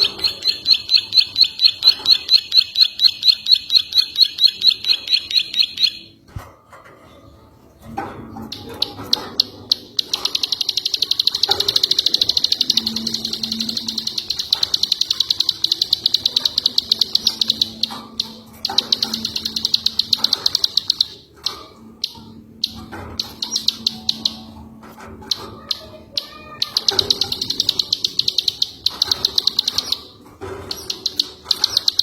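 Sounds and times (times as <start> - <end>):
songbird rattling trills: 0.0 - 6.2, 8.3 - 32.0.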